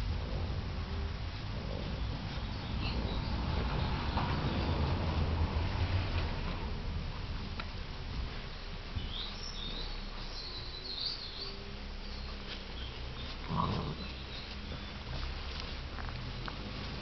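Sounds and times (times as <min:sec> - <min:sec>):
faint birds chirping: 0:00.0 - 0:05.4, 0:08.3 - 0:17.0.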